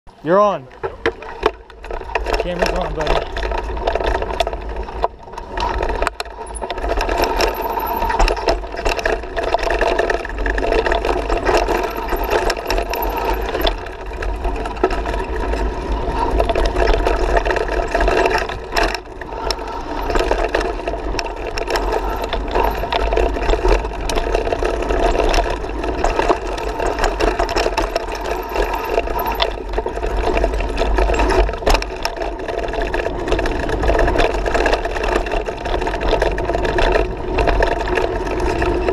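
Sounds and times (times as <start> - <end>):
tyres on dirt: 0.2 - 38.9
bike rattling clicks: 0.8 - 38.9.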